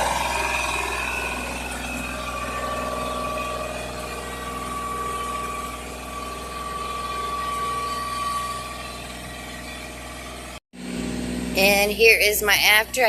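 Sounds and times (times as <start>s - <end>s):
high whine: 0.0s - 13.0s
tractor engine running: 0.0s - 13.0s.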